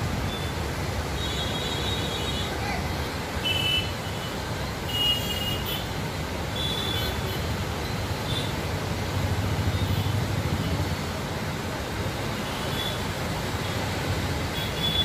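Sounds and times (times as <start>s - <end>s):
rushing floodwater rumble: 0.0s - 15.0s.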